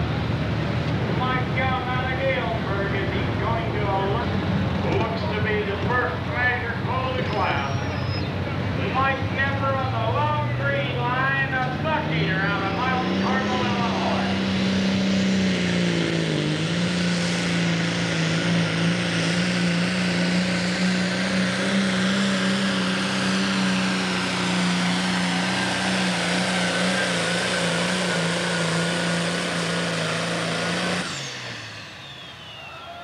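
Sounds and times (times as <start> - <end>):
diesel tractor engine under load: 0.0 - 33.0
high turbo whine: 0.0 - 33.0.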